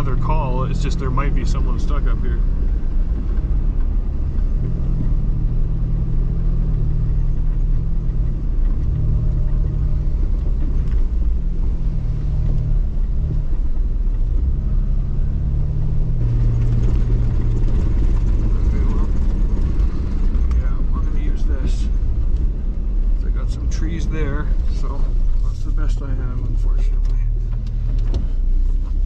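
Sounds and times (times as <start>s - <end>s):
engine revving in snow: 0.0s - 2.6s, 3.2s - 29.0s
low rumble of drive: 0.0s - 29.0s.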